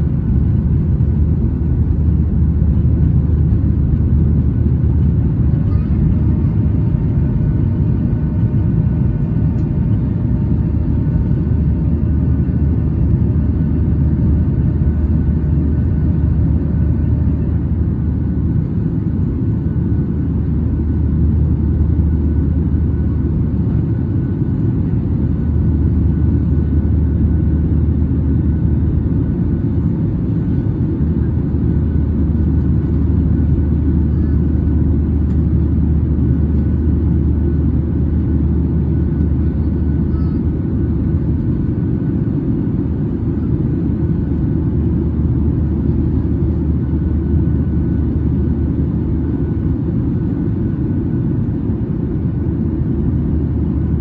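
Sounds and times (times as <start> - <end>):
plane engines droning in cabin: 0.0 - 54.0.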